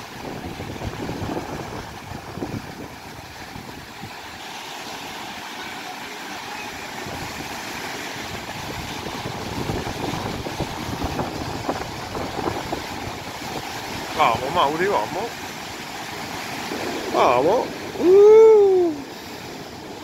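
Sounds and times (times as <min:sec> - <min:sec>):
wind buffeting microphone: 0:00.0 - 0:05.3, 0:06.7 - 0:20.0
ocean surf breaking: 0:00.0 - 0:20.0.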